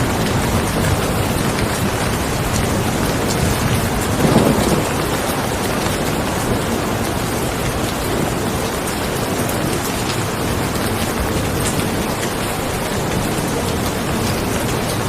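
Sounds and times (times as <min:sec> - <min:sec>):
rain pattering on a surface: 0:00.0 - 0:15.0.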